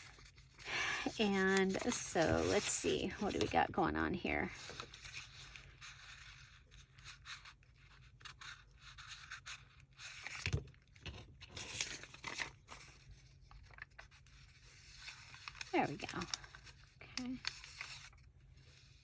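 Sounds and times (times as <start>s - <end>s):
paper rustling and sliding: 0.0s - 16.8s.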